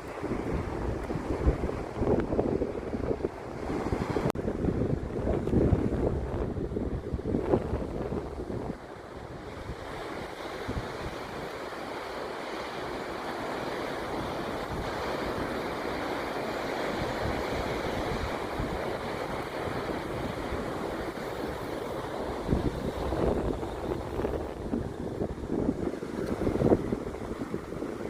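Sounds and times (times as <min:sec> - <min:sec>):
wind on microphone: 0:00.0 - 0:28.0.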